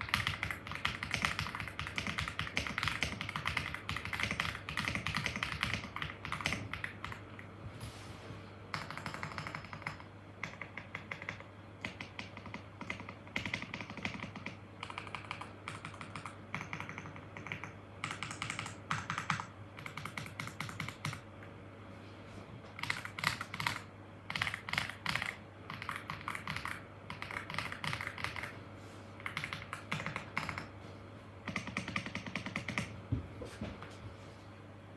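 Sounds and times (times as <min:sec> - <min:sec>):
typing on mechanical keyboard: 0:00.0 - 0:07.4, 0:08.7 - 0:21.2, 0:22.8 - 0:28.5, 0:29.2 - 0:30.7, 0:31.5 - 0:32.9.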